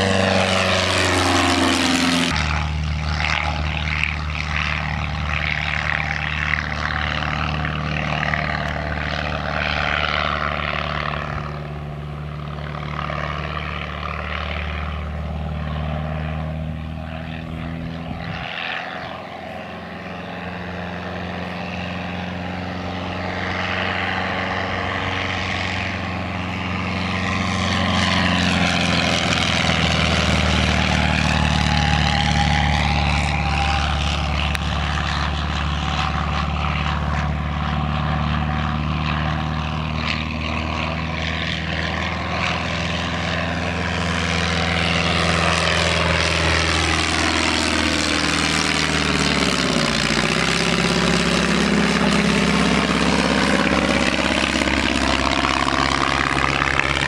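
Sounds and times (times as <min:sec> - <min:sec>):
propeller plane engine flying: 0:00.0 - 0:57.0.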